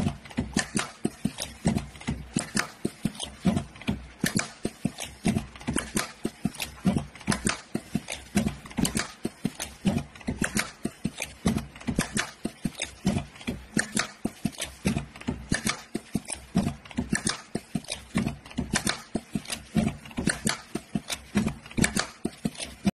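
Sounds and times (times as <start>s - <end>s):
machine clacking and clicking: 0.0s - 22.9s.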